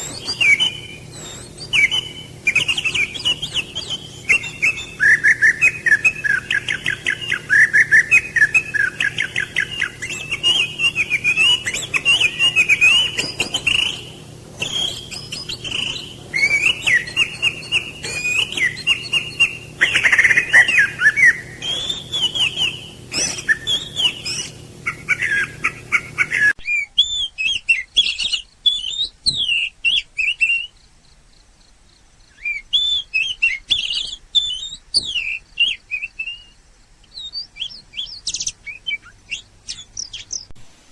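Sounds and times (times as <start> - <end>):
songbirds chirping: 0.0 - 40.6
faint background hum: 0.0 - 40.9.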